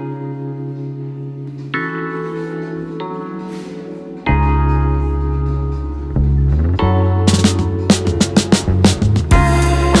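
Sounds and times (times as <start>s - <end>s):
sustained instrumental chords: 0.0s - 10.0s.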